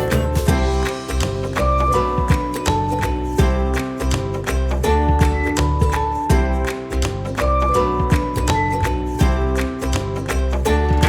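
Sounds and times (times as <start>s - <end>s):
upbeat guitar music with beat: 0.0s - 11.0s.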